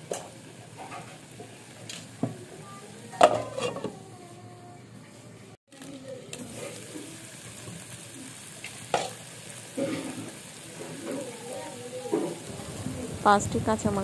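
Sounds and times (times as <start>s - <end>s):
food sizzling in pan: 0.0s - 14.0s.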